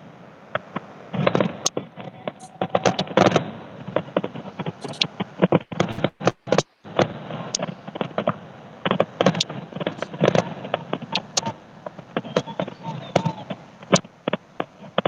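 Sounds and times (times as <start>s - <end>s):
fireworks crackling and popping: 2.4s - 15.0s.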